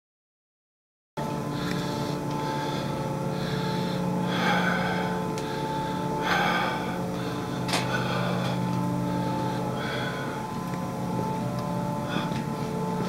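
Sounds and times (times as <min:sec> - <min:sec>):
machinery hum: 0:01.2 - 0:13.0.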